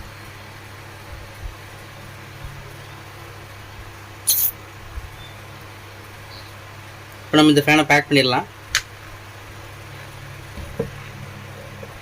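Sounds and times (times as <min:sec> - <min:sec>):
electric fan motor humming: 0:00.0 - 0:12.0.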